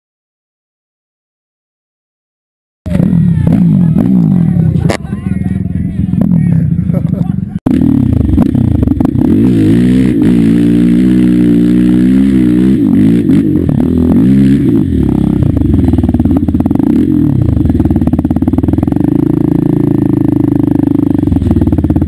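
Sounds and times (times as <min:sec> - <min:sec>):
off-road vehicle engine revving: 0:02.9 - 0:22.0.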